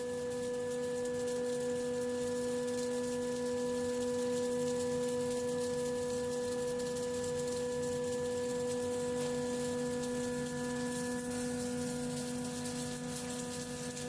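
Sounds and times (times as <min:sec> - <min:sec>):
refrigeration machine hum: 0:00.0 - 0:14.0.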